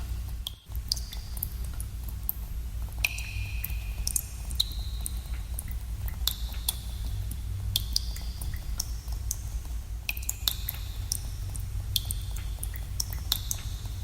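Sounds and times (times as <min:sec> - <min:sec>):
water drops plinking in a cave: 0:00.3 - 0:14.0.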